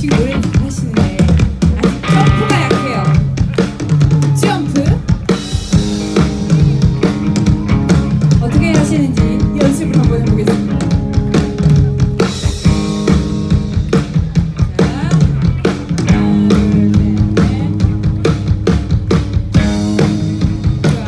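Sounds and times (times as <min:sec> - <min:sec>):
bass: 0:00.0 - 0:21.0
drum kit beat: 0:00.0 - 0:21.0.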